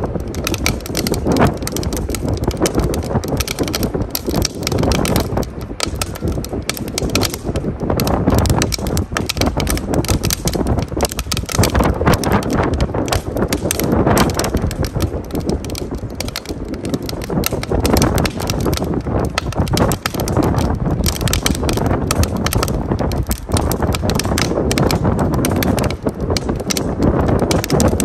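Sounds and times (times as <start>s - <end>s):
wind buffeting microphone: 0.0s - 28.0s
wood fire crackling and popping: 0.0s - 28.0s.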